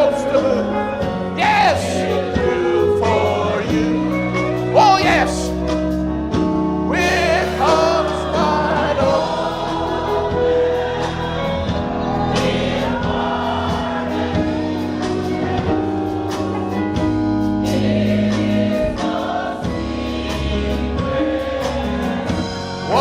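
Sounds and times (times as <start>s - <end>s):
group singing a slow hymn: 0.0s - 23.0s
instrumental accompaniment: 0.0s - 23.0s.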